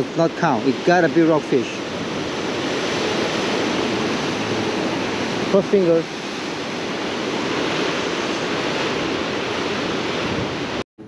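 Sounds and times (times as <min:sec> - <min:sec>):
surf breaking on rocks: 0:00.0 - 0:10.8
wind on microphone: 0:00.0 - 0:10.8.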